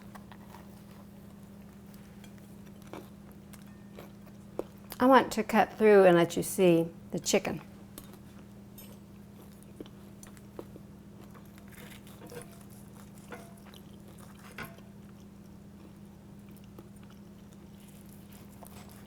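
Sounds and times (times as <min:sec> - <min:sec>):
knife and fork crunching food: 0:00.1 - 0:05.0, 0:08.0 - 0:19.0.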